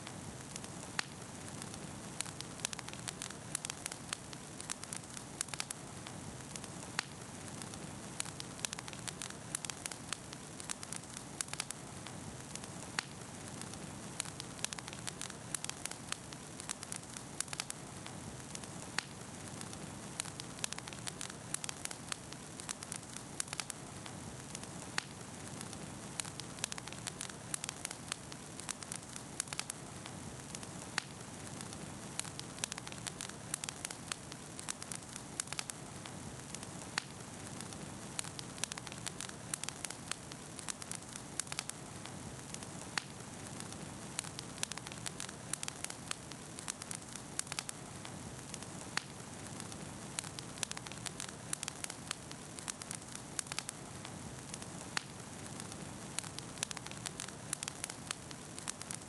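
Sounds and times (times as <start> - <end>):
campfire crackling and popping: 0.0 - 59.0
hiss of burning: 0.0 - 59.0.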